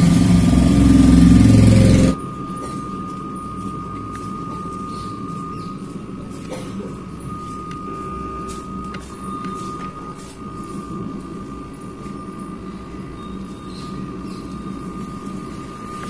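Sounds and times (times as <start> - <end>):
low rumbling hum: 0.0 - 16.0
speaker high whistle: 0.1 - 16.0.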